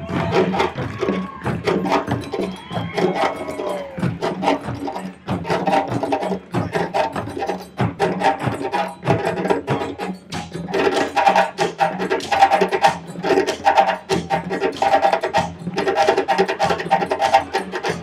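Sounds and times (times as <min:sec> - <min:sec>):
djembes played by hand: 0:00.0 - 0:18.0.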